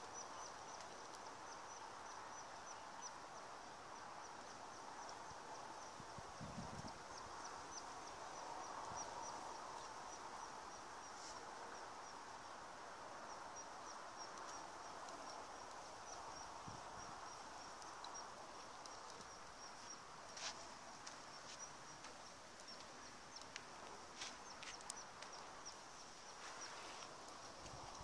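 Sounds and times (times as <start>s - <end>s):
soft outdoor hiss: 0.0s - 28.0s.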